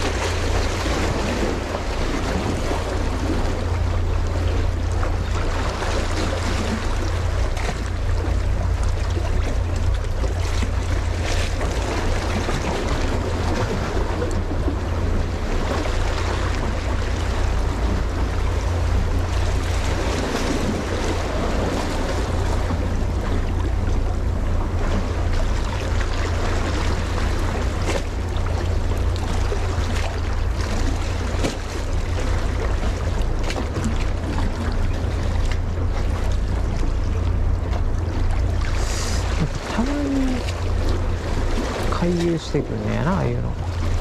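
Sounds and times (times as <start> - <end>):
waves washing at shore: 0.0 - 44.0.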